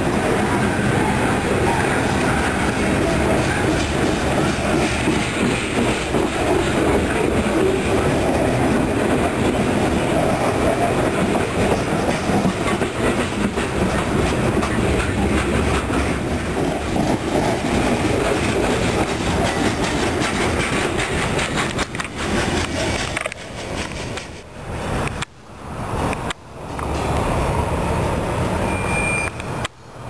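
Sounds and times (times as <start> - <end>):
freight train rumbling: 0.0 - 28.8
wheels clacking over rail joints: 0.1 - 25.3.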